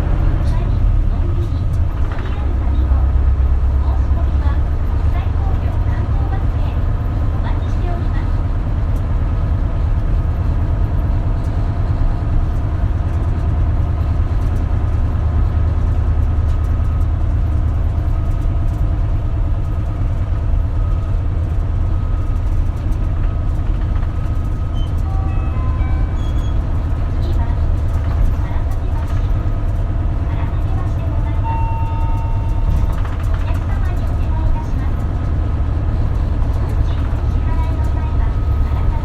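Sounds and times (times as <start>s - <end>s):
bus engine and road drone: 0.0s - 39.0s.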